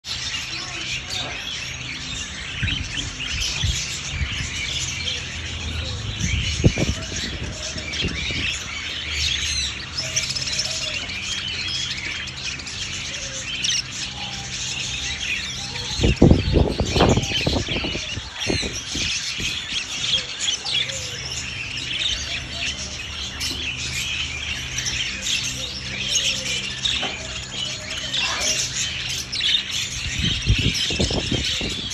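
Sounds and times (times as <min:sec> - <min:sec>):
budgerigars chirping: 0:00.0 - 0:31.9.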